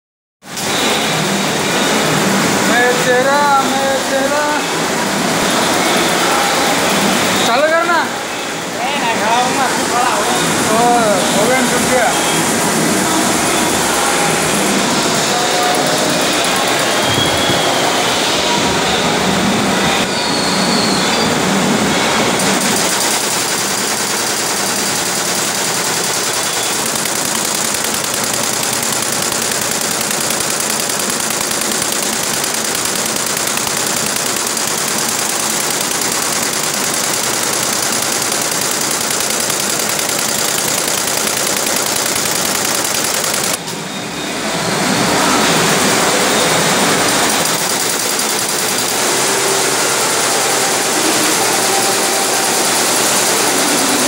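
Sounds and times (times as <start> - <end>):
embroidery machine clatter: 0.5 - 19.0, 21.8 - 43.8, 45.4 - 54.0.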